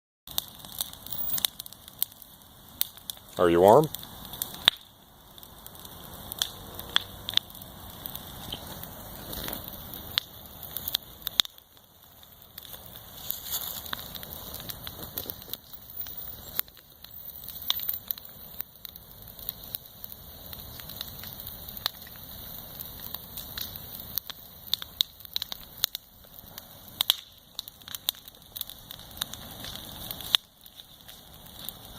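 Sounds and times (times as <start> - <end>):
fire crackling and popping: 0.3 - 31.9
flames rushing: 0.3 - 31.9.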